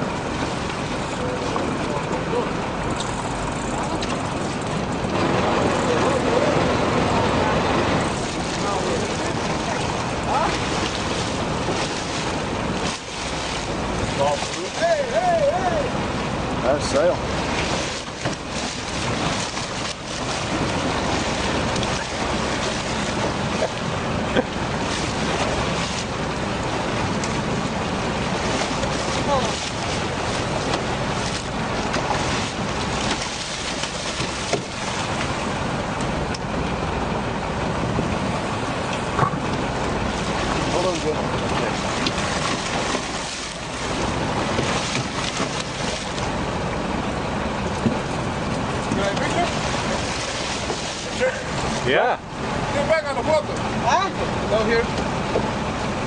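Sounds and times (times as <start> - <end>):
water splashing against boat hull: 0.0 - 56.0.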